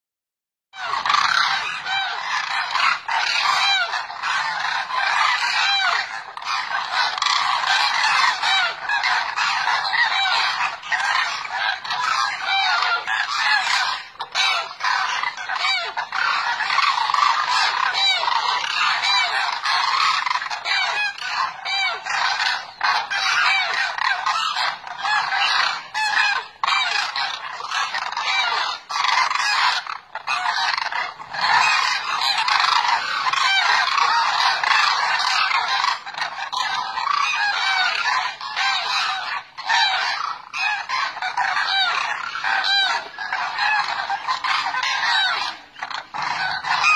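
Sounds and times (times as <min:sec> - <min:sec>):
flock of cranes calling: 0:00.8 - 0:46.9.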